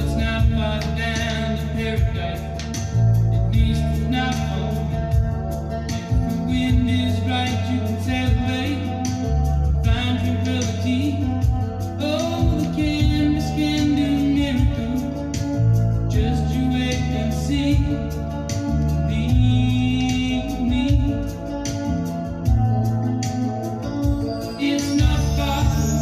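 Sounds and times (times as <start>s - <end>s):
person singing: 0.0s - 23.1s, 24.1s - 26.0s
song with bass and beat: 0.0s - 26.0s.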